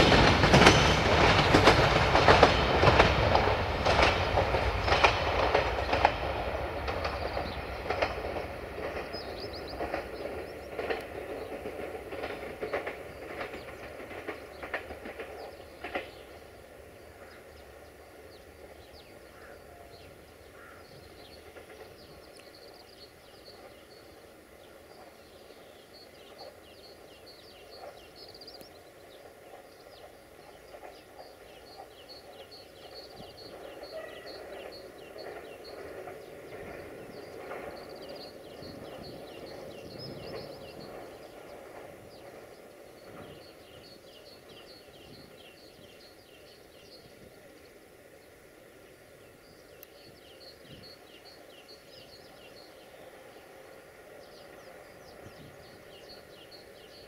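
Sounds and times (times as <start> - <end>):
distant low rumble: 0.0 - 51.7
small birds singing: 0.6 - 57.0.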